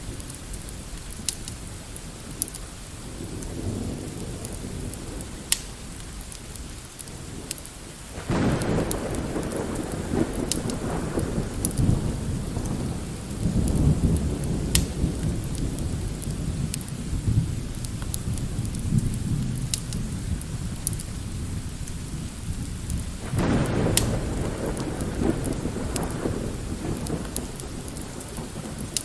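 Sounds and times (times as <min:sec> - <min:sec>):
steady light rain: 0:00.0 - 0:29.0
rolling thunder: 0:01.5 - 0:29.0.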